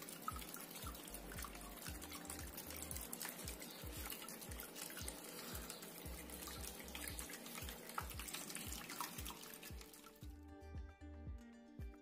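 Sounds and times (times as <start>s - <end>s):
fountain water splashing: 0.0s - 10.2s.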